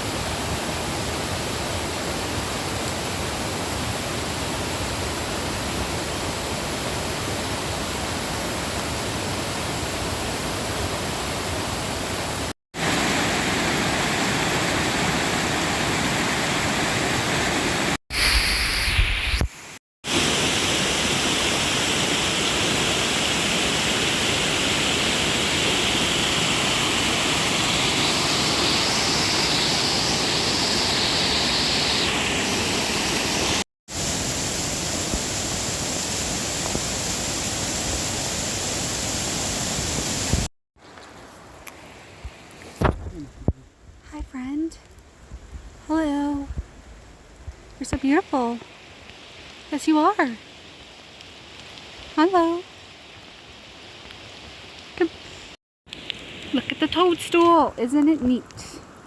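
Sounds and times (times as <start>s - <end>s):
rushing creek water: 0.0s - 18.0s, 19.6s - 43.0s, 48.0s - 59.0s.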